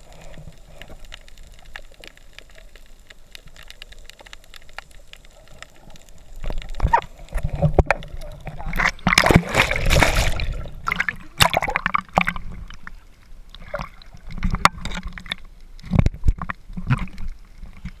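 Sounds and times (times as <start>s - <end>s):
water splashing and gurgling: 0.0s - 18.0s.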